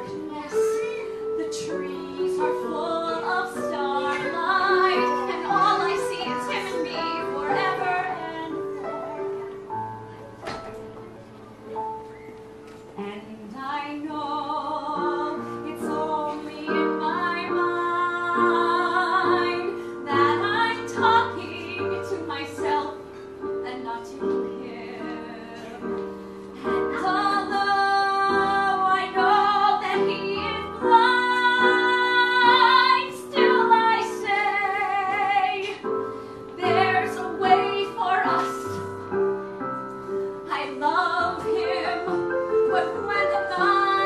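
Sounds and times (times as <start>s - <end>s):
woman singing slow melody: 0.0s - 9.3s, 12.9s - 39.3s, 40.4s - 44.0s
instrumental accompaniment: 0.0s - 44.0s.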